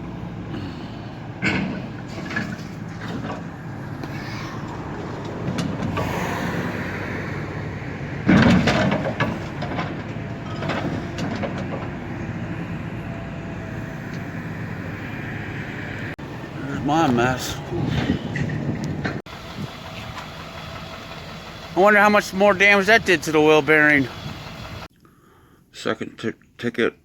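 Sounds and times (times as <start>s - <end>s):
clunks: 0.0s - 6.8s, 7.4s - 15.0s, 15.9s - 24.9s
pickup truck driving: 0.0s - 24.9s.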